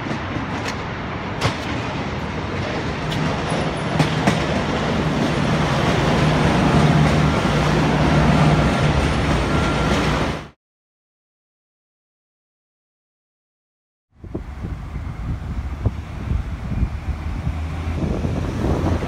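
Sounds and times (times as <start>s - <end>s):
diesel train engines humming: 0.0s - 10.5s, 14.2s - 19.0s
wheels rumbling on rails: 0.0s - 10.6s, 14.2s - 19.0s.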